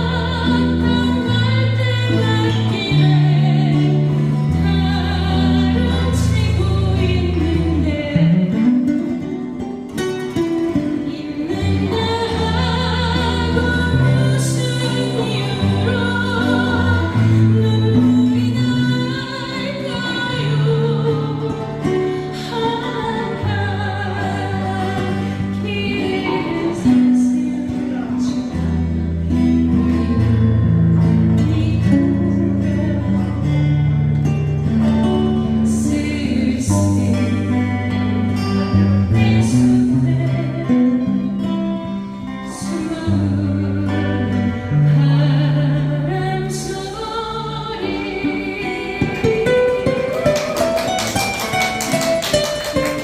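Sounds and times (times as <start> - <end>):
woman singing a slow ballad: 0.0 - 9.3, 10.2 - 50.2
guitar: 0.0 - 53.0.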